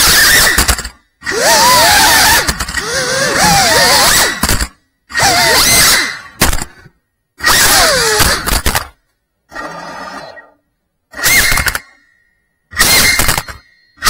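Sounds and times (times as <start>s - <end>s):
drone motors and propellers whining: 0.0s - 14.0s.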